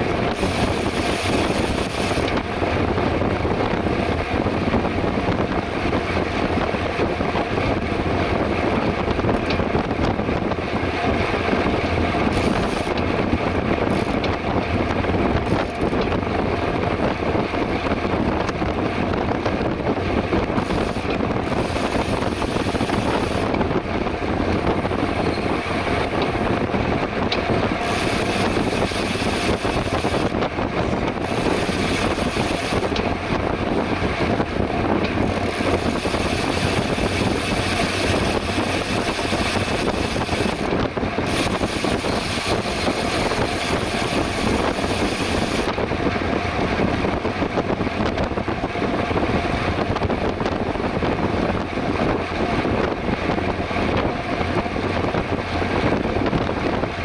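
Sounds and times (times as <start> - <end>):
bicycle road noise: 0.0 - 57.0
wind on microphone: 0.0 - 57.0.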